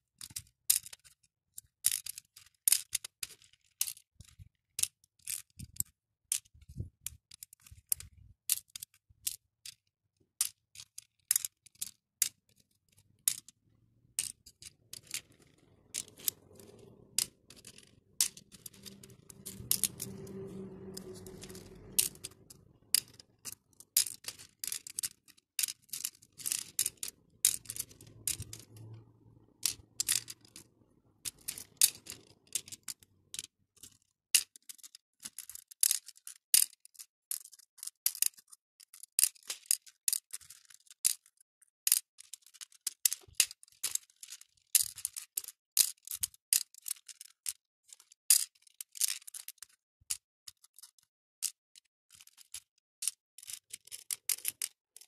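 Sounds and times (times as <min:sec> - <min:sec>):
beads clicking on plastic trays: 0:00.1 - 0:55.0.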